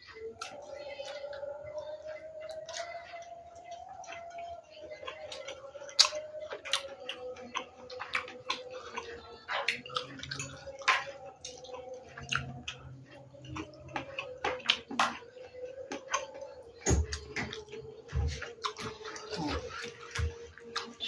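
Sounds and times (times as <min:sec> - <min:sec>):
chewing with wet lip smacks: 0:00.1 - 0:21.0.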